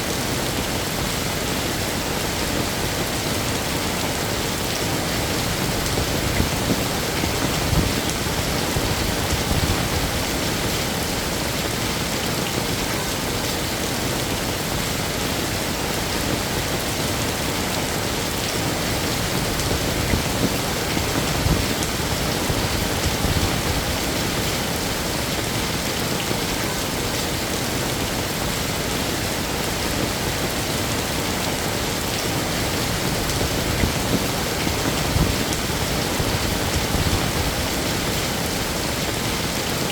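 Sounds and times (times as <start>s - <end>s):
heavy rain on a hard surface: 0.0s - 39.9s.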